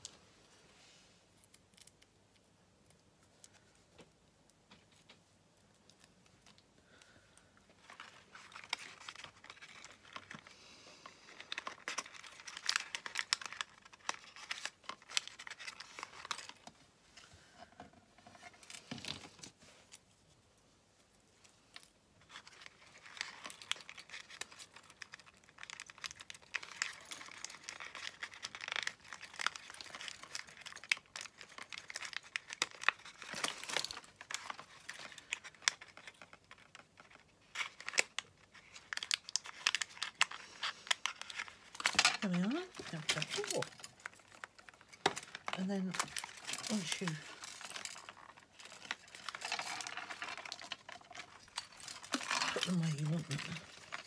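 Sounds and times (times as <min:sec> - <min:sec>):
paper lantern crinkling: 0:03.3 - 0:20.4, 0:21.1 - 0:54.0.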